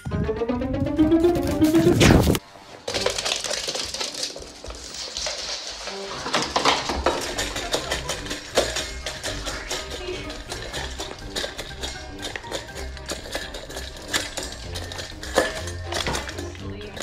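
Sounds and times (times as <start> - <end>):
metal bowl clinking and rattling: 2.9 - 17.0.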